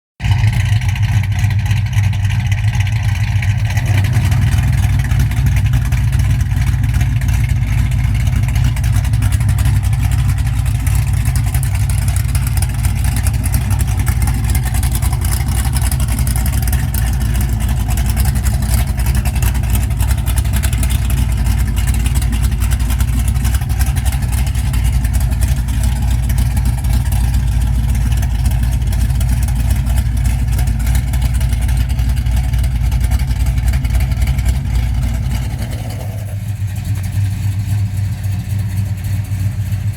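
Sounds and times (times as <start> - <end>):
car engine rumbling at idle: 0.2 - 39.9.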